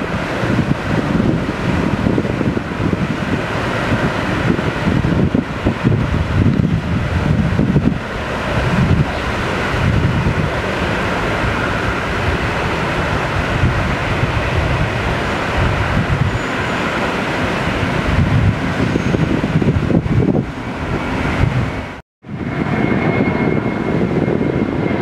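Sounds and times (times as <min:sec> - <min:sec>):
jet airliner taking off: 0:00.0 - 0:25.0.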